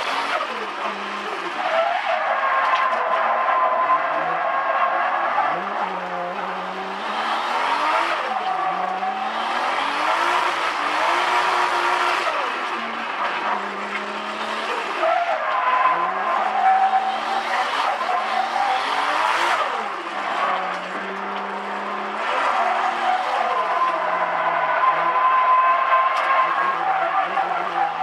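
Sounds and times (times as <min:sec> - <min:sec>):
car engine revving: 0:00.0 - 0:28.0
tyres squealing on tarmac: 0:00.0 - 0:28.0.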